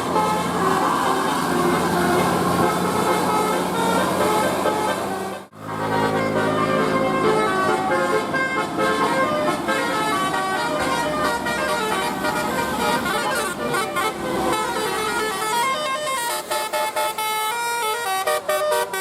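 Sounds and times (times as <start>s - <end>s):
bus horns playing melody: 0.0s - 19.0s.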